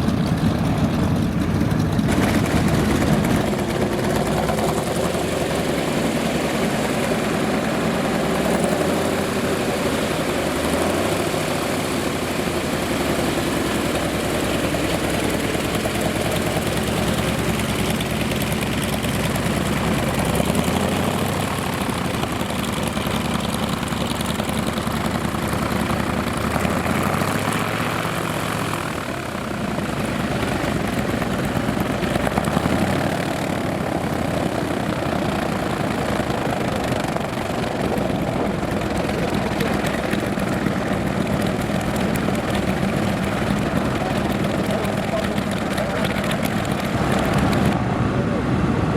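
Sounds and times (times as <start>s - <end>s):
piston aircraft engine: 0.0s - 48.9s
propeller noise: 0.0s - 48.9s.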